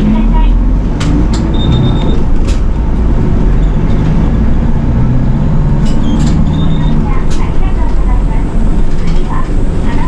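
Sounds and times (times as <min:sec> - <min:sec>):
bus diesel engine drone: 0:00.0 - 0:10.0.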